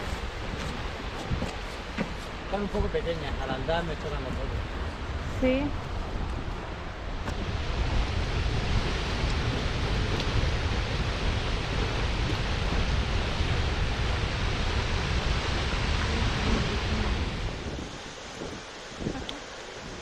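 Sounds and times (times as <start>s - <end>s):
waterfall roar: 0.0s - 5.2s, 6.2s - 20.0s
wind rumbling on microphone: 0.0s - 20.0s.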